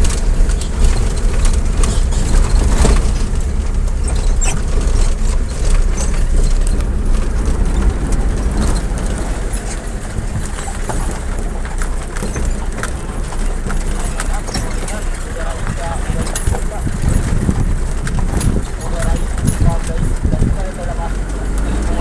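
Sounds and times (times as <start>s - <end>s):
rattles and clicks: 0.0s - 22.0s
vehicle low rumble: 0.0s - 22.0s.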